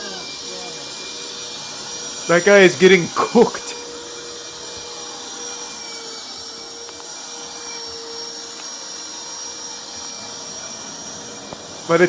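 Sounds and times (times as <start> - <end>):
pressurised water spraying: 0.0 - 12.0.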